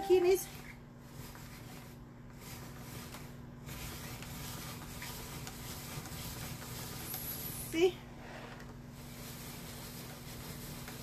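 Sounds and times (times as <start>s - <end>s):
spiralizer scraping and crunching: 0.2s - 11.0s.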